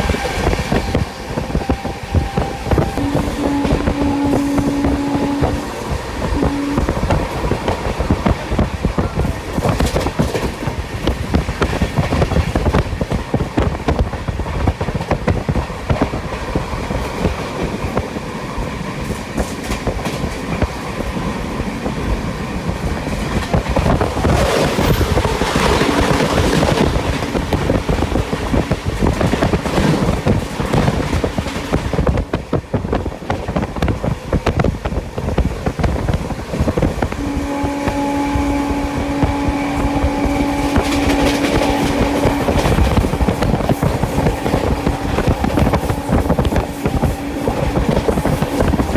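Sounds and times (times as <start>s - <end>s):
train rushing rumble: 0.0s - 48.9s
train wheels clattering over rail joints: 2.4s - 37.2s, 39.8s - 48.9s.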